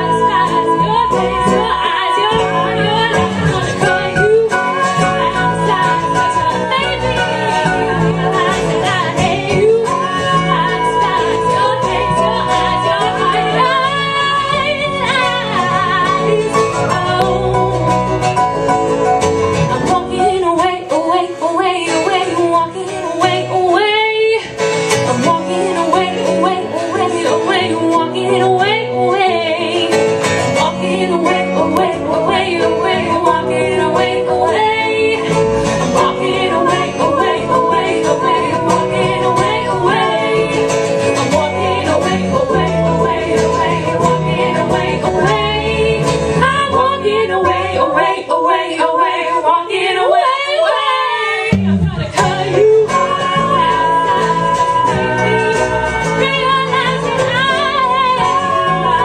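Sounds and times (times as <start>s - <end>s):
female harmony singers: 0.0s - 18.1s, 19.7s - 59.0s
woman singing lead vocal: 0.0s - 18.3s, 19.6s - 59.0s
bass guitar: 0.0s - 49.2s, 51.4s - 59.0s
strummed acoustic guitar: 0.0s - 50.0s, 51.4s - 59.0s.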